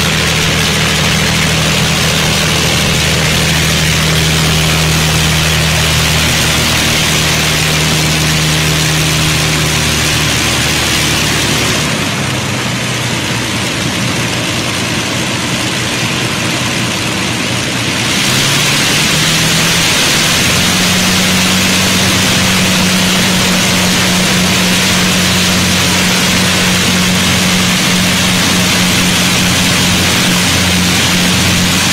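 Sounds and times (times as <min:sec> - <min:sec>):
aircraft engines droning: 0:00.0 - 0:31.9.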